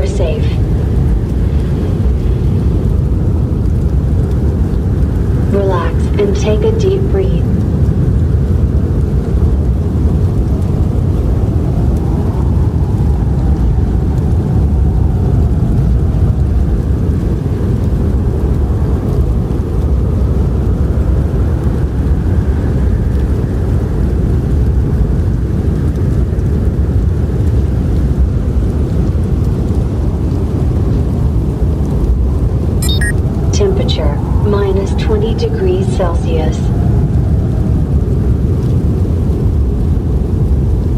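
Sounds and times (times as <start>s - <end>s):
howling blizzard wind: 0.0s - 40.9s.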